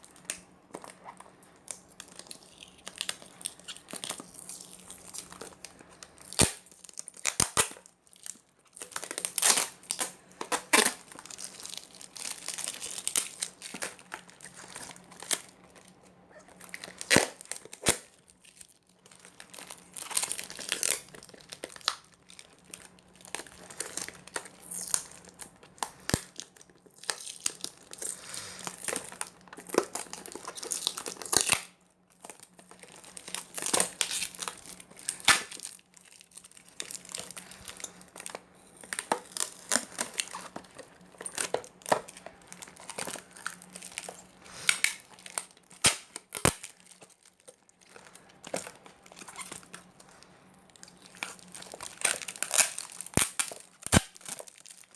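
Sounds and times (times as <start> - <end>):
plastic packaging crinkling and tearing: 0.0 - 54.9.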